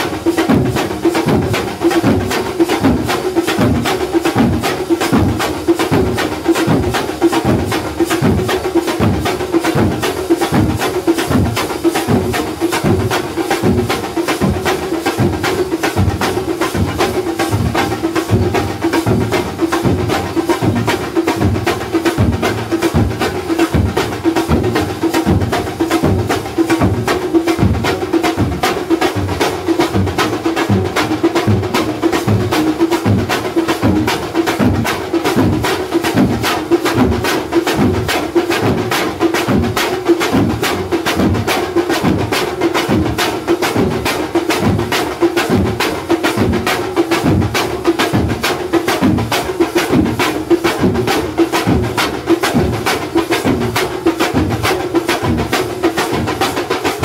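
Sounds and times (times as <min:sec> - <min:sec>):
frame drums beaten with sticks: 0:00.0 - 0:57.0
small side drums: 0:00.0 - 0:57.0.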